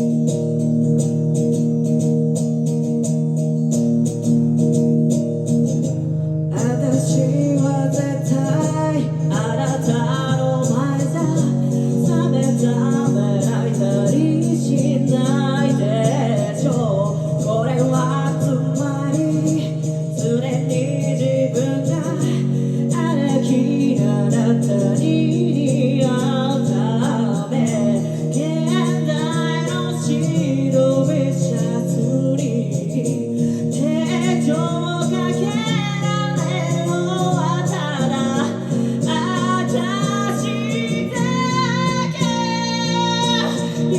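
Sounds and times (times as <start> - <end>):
woman singing: 5.8 - 43.9.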